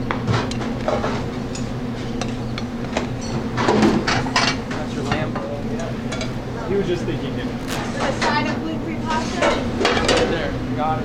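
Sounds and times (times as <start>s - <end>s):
kitchen equipment hum: 0.0s - 10.2s.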